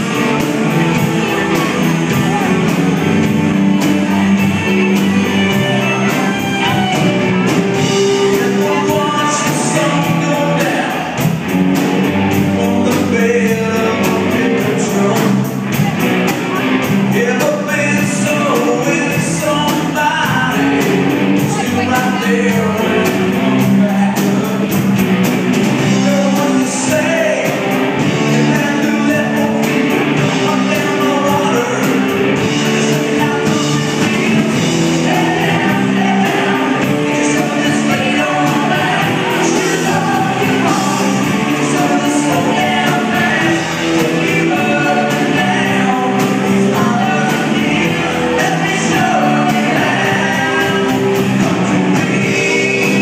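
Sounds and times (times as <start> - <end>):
drums: 0.0 - 53.0
electric guitars: 0.0 - 53.0
lead vocalist singing: 0.0 - 53.0.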